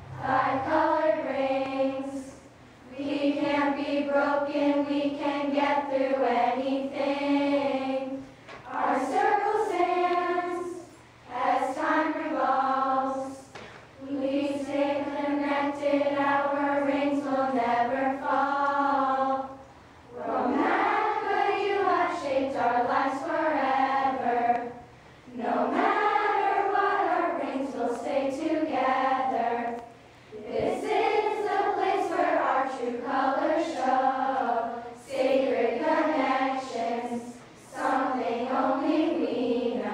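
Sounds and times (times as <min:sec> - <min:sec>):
girls choir singing: 0:00.0 - 0:39.9.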